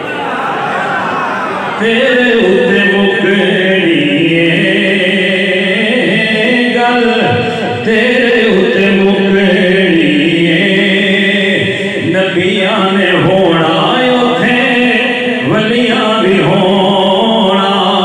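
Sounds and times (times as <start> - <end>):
devotional chanting: 1.6 - 18.0.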